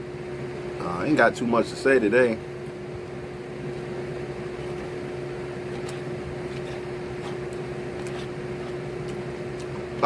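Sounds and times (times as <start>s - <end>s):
electric fans humming: 0.0s - 10.0s.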